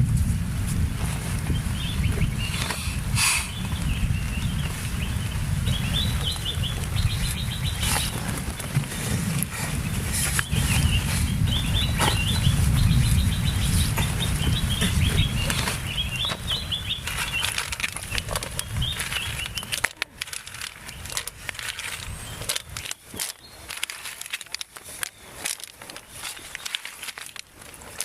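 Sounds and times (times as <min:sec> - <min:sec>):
low rumbling noise: 0:00.0 - 0:23.0
bird chirping: 0:01.4 - 0:27.3.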